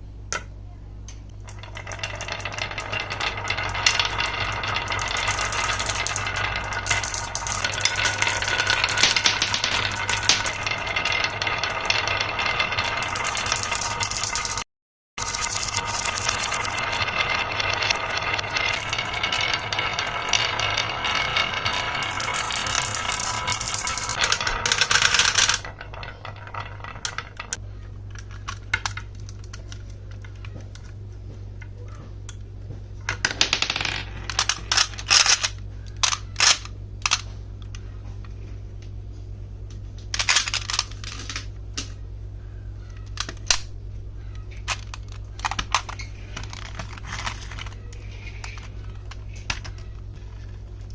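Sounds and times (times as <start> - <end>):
marbles clicking down wooden run: 1.5 - 30.9, 33.1 - 37.3, 40.2 - 42.0, 42.8 - 50.7.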